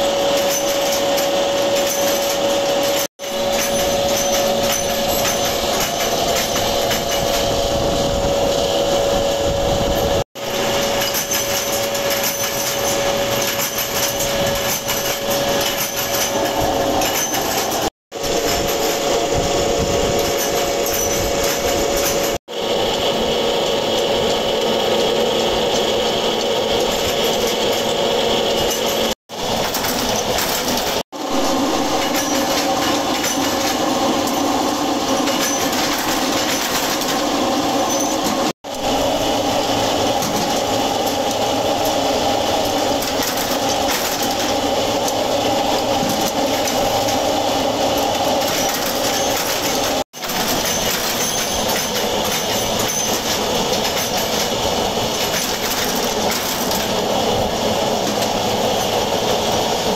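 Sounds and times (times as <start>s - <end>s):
forging machinery clatter: 0.0s - 8.2s, 9.8s - 22.4s, 23.7s - 59.9s.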